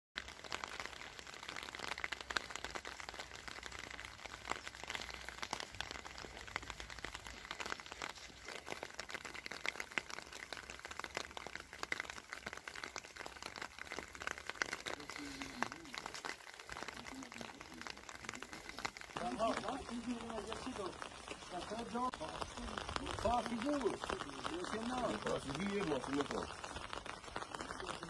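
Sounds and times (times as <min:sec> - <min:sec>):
rain pattering: 0:00.2 - 0:28.0.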